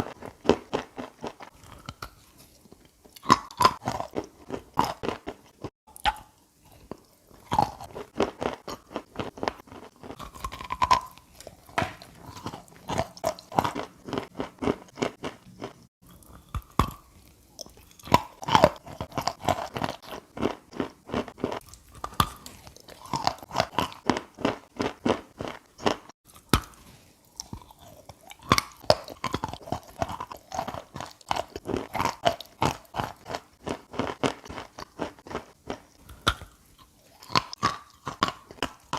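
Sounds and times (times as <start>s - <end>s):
chalk crunching while chewed: 0.0s - 38.9s.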